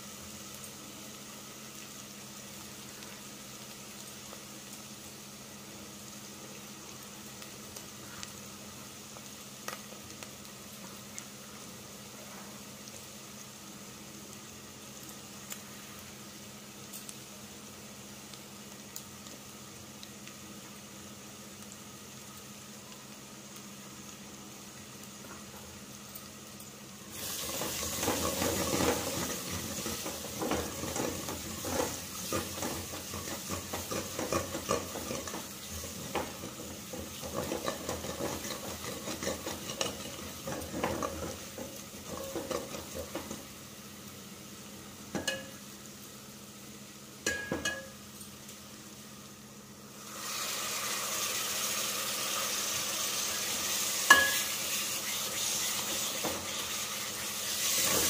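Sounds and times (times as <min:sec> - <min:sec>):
loud steady sizzle: 0:00.0 - 0:58.0
masala frying in oil: 0:00.0 - 0:58.0.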